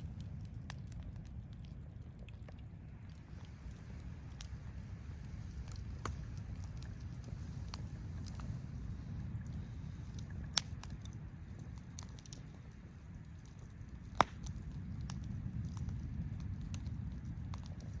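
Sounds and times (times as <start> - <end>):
campfire crackling: 0.0 - 18.0
sharp pops of fire: 0.0 - 18.0
steady low rumble: 0.0 - 18.0.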